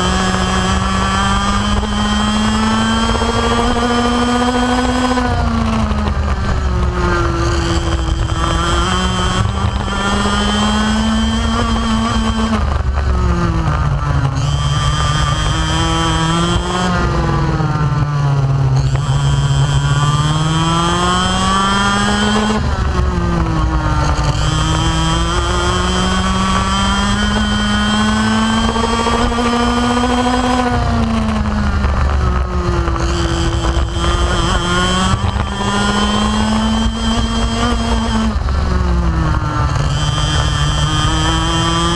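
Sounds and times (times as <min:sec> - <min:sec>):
kart engine revving: 0:00.0 - 0:41.9.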